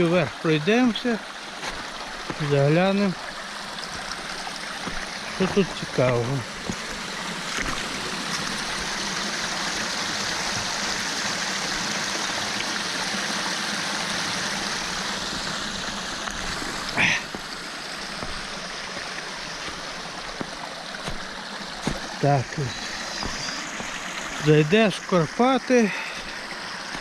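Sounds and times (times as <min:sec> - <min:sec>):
mountain stream running: 0:00.0 - 0:27.0.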